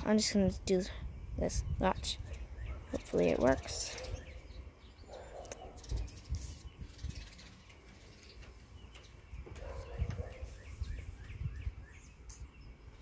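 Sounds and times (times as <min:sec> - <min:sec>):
small bird chirping: 0:01.0 - 0:13.0.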